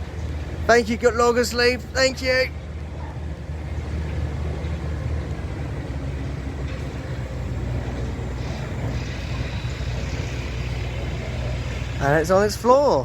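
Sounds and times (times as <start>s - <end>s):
large engine running steadily: 0.0s - 13.0s.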